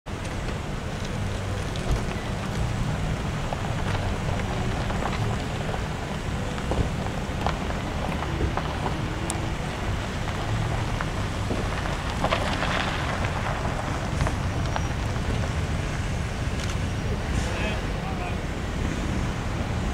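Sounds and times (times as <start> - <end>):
low rumble: 0.1 - 19.9.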